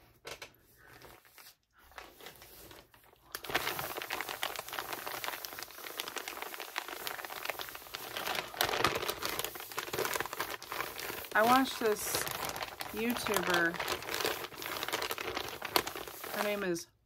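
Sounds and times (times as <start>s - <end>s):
paper envelope crinkling: 1.0s - 16.8s.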